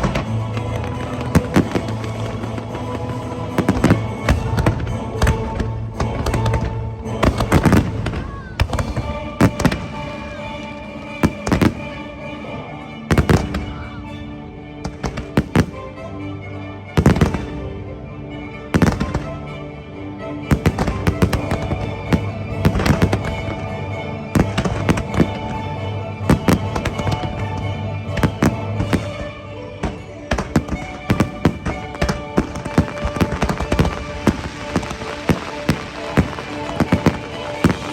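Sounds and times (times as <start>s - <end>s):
fireworks bangs and crackling: 0.0s - 12.0s, 13.1s - 13.9s, 14.8s - 15.9s, 17.0s - 17.6s, 18.7s - 19.5s, 20.5s - 37.9s
orchestral music over speakers: 0.0s - 37.9s.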